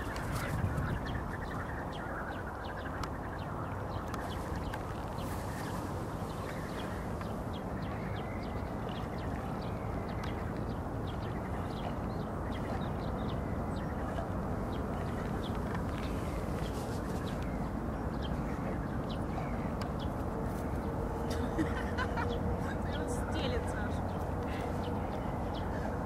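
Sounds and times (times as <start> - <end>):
birds chirping and calling: 0.0 - 26.0.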